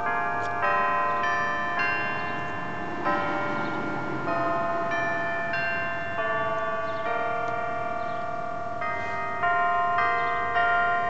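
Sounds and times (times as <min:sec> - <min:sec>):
church bells chiming: 0:00.0 - 0:11.0.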